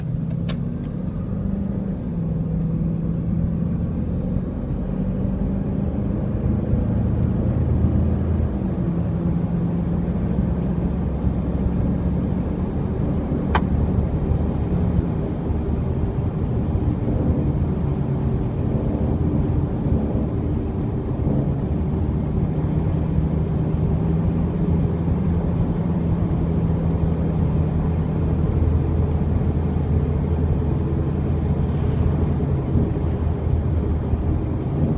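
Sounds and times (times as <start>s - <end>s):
road and drivetrain rumble: 0.0s - 34.9s.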